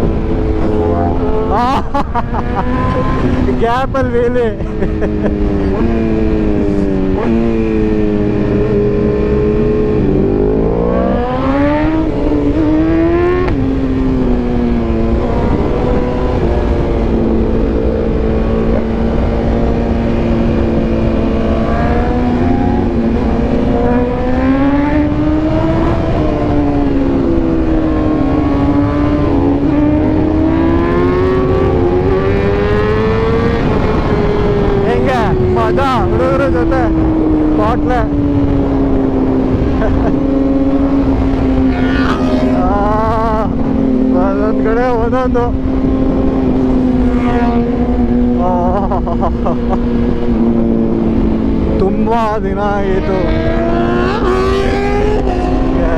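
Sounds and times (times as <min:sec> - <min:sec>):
heavy wind rush: 0:00.0 - 0:55.9
motorbike engine revving: 0:00.0 - 0:55.9.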